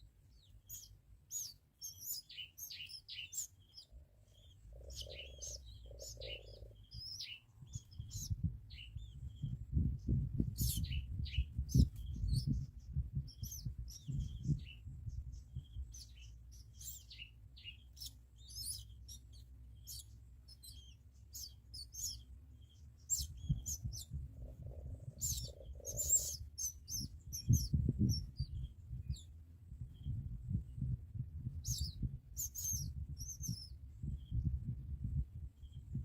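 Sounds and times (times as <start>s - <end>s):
small birds chirping: 0.0s - 36.0s
low rumble: 3.8s - 36.0s.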